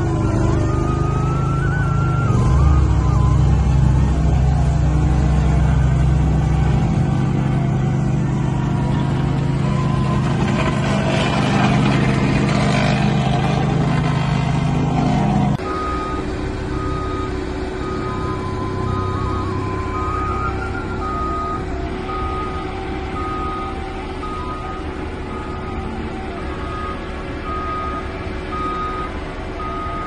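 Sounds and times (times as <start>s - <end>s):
reversing alarm beeping: 0.0s - 13.7s, 14.4s - 30.0s
construction machinery: 0.0s - 30.0s
paving machinery engines droning: 0.0s - 30.0s.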